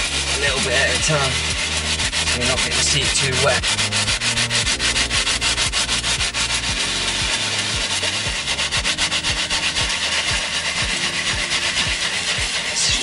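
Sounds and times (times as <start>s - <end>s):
brush scrubbing leather: 0.0s - 13.0s.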